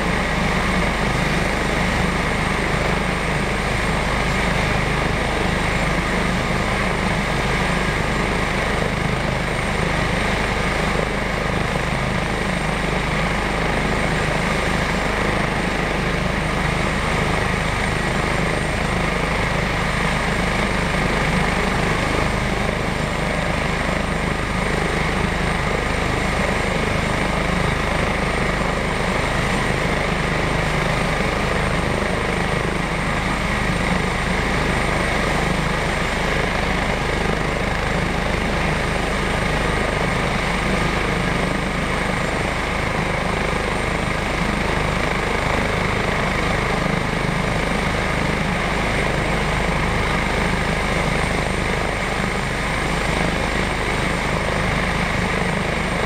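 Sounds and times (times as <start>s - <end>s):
helicopter rotor and turbines droning: 0.0s - 56.0s.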